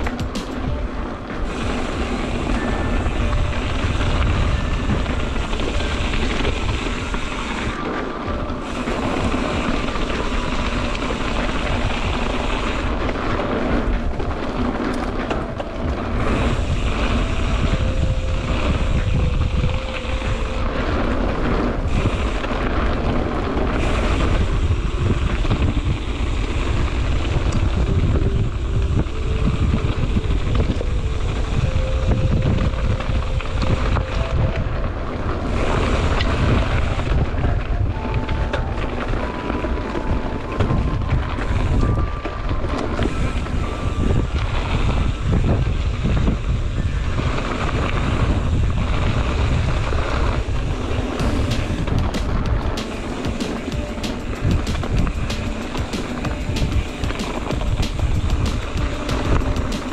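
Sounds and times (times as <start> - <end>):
bike tyre and suspension rumble: 0.0 - 59.9
wind rush on microphone: 0.0 - 59.9.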